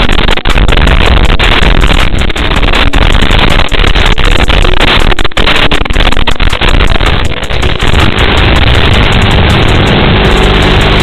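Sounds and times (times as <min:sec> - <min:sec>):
quadcopter motors and propellers: 0:00.0 - 0:11.0
radio static crackling: 0:00.0 - 0:11.0.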